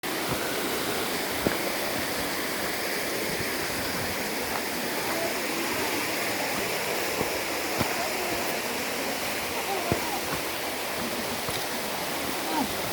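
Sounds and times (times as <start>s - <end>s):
water rushing: 0.0s - 12.9s.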